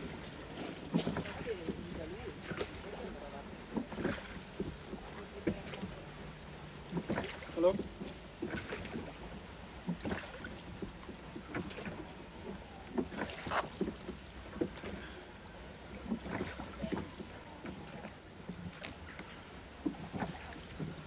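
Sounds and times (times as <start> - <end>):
oars pulling through water: 0.0 - 21.0.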